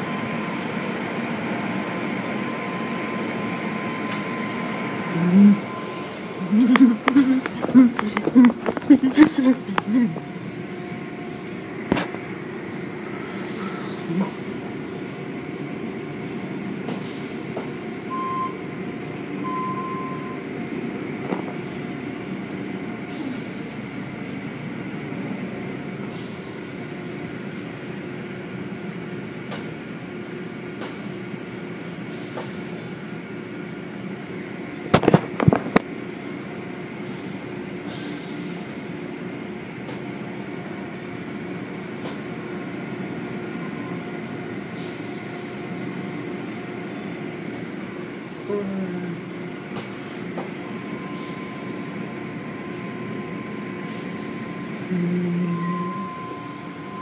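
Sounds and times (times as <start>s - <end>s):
car wash machinery hum: 0.0s - 57.0s.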